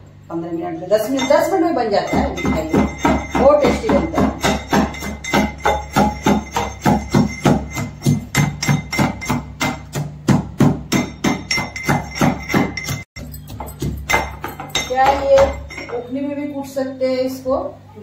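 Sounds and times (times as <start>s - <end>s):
steel pestle pounding in mortar: 1.1s - 16.1s.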